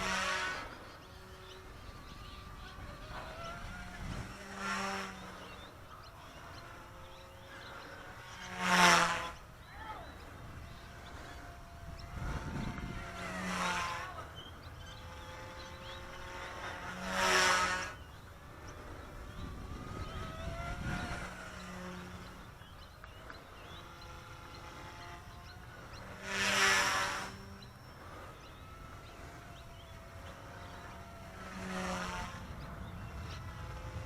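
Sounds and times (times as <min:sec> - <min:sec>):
model helicopter rotor whirring: 0:00.0 - 0:34.0.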